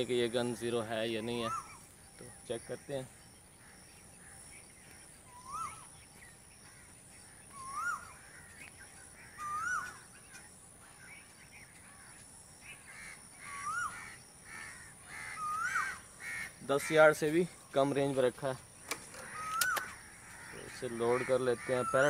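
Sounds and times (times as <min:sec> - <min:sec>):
bird calling: 0:00.0 - 0:22.0.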